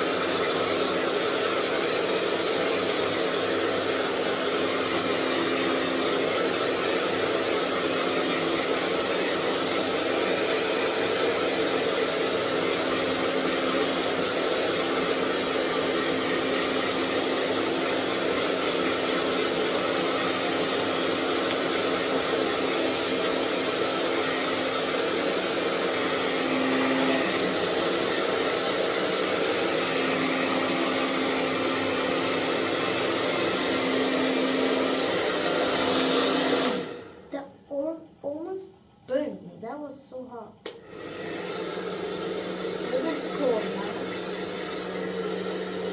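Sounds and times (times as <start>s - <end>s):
hair dryer running: 0.0s - 37.6s, 40.5s - 45.9s.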